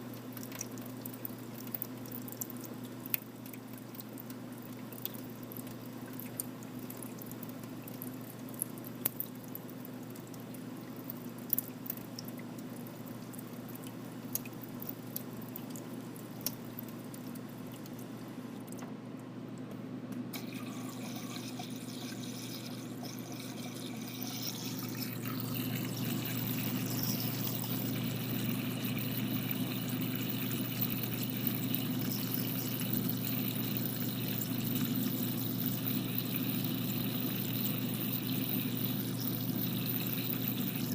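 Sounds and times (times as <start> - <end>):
water pouring and dripping: 0.0 - 18.8, 20.3 - 40.9
cooling compressor hum: 0.0 - 40.9.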